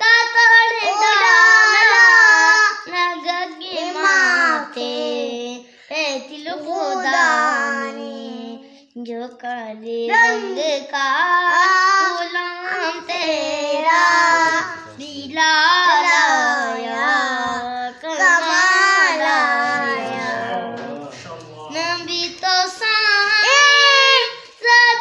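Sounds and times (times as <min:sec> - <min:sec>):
boy singing unaccompanied: 0:00.0 - 0:25.0.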